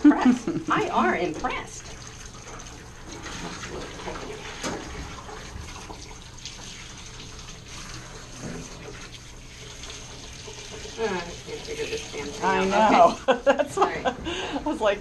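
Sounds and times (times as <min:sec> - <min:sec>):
water spraying from hose: 0:00.7 - 0:13.4.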